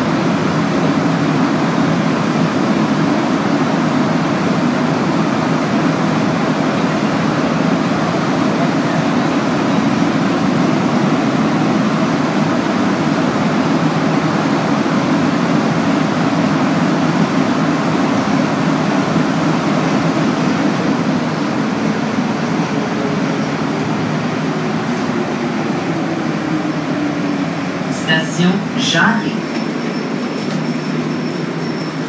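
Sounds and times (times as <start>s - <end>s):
train car interior rumble: 0.0s - 32.0s.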